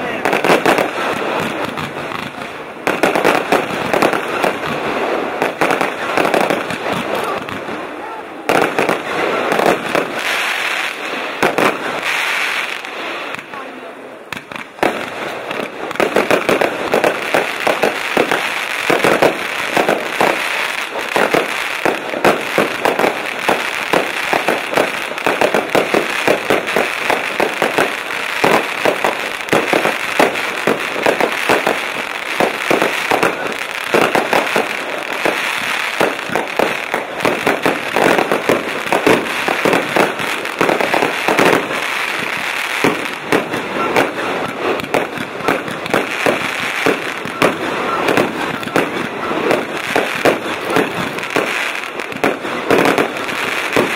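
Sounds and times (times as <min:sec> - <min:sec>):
fireworks banging: 0:00.0 - 0:53.9.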